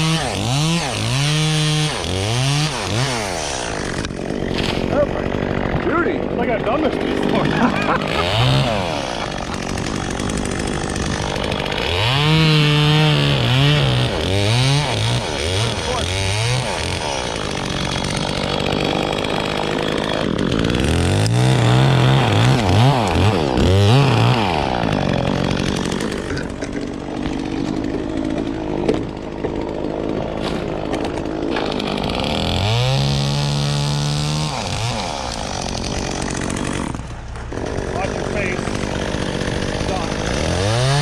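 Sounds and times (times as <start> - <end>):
chainsaw revving: 0.0 - 41.0.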